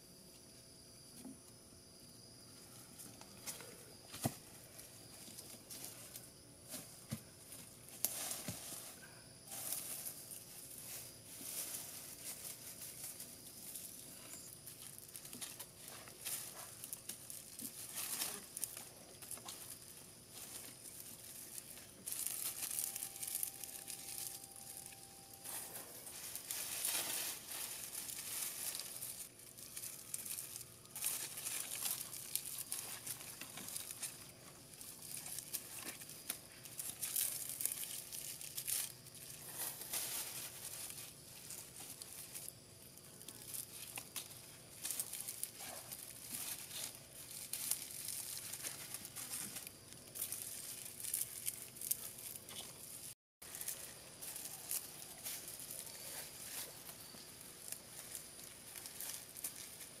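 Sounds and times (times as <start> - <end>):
grass stems rustling in hands: 2.5 - 60.0
dry leaf litter crackling: 4.4 - 60.0.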